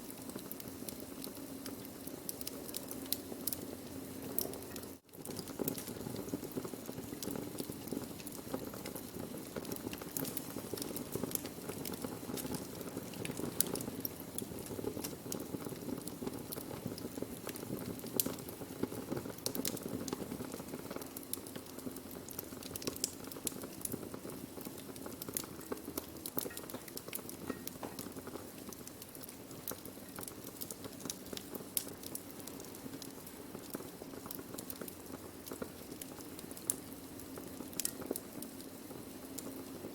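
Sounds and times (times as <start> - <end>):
burning wood crackling: 0.0 - 39.9
rush of flames: 0.3 - 39.9.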